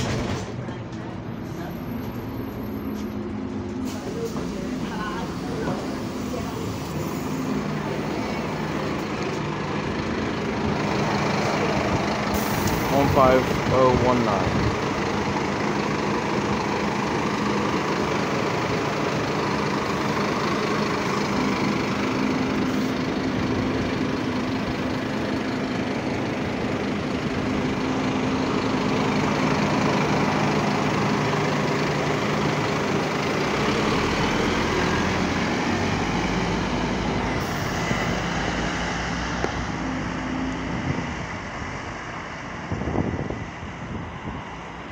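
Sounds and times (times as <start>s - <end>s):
bus engine and cooling fan drone: 0.0s - 44.9s.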